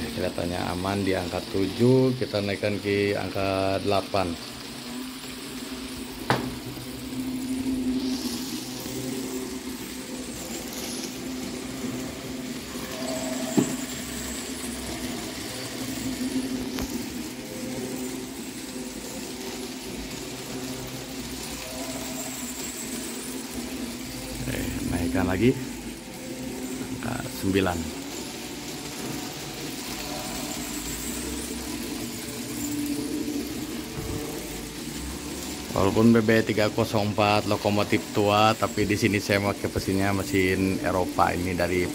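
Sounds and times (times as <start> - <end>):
model train motor humming: 0.0 - 41.9.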